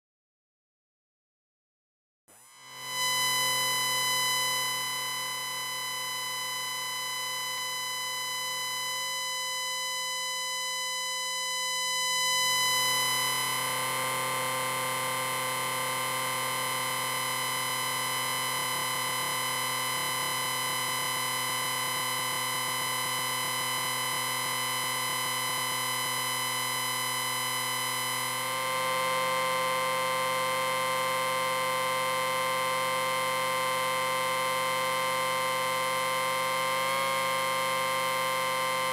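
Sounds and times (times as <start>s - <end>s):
electronic whine of held tones: 2.3s - 38.9s.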